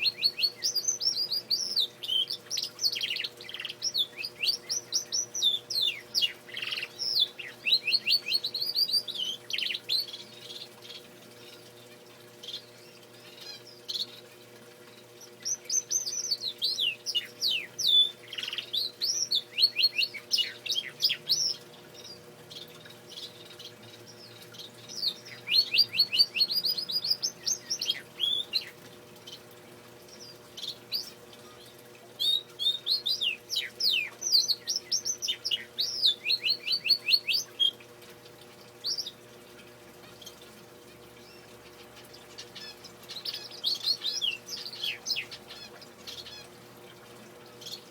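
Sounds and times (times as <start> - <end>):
canary singing trills: 0.0 - 47.9.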